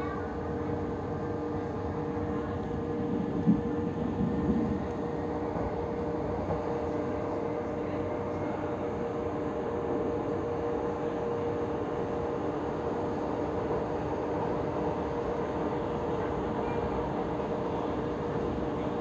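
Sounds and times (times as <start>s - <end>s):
constant hum: 0.0s - 19.0s
train wheels rumbling on rail: 0.0s - 19.0s.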